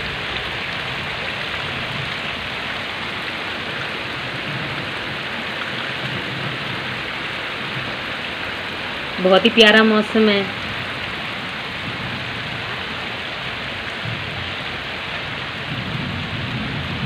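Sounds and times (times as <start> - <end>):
heavy rain on muddy ground: 0.0 - 17.0.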